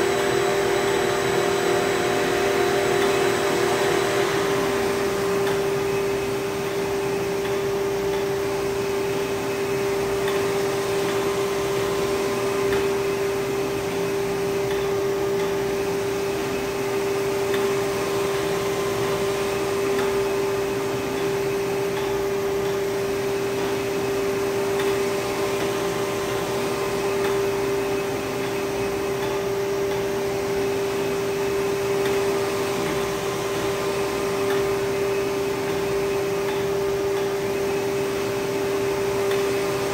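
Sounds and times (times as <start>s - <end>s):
printer humming and whirring: 0.0s - 39.9s.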